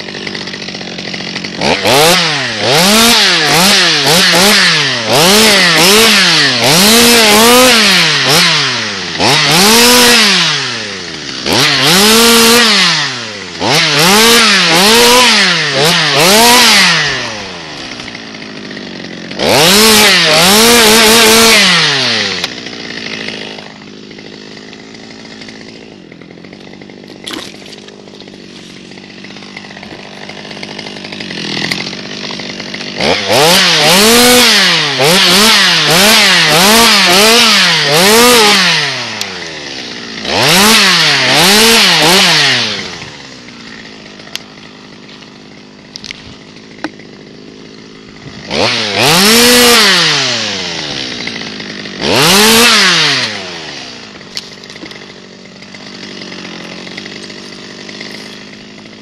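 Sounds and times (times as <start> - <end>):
chainsaw idling: 0.0 - 59.0
chainsaw revving in bursts: 0.0 - 59.0.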